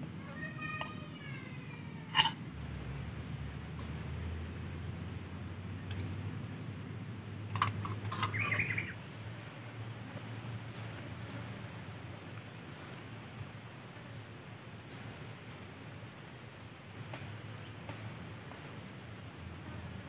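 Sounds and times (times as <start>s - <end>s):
insects droning: 0.0s - 20.0s
low background hum: 0.0s - 20.0s.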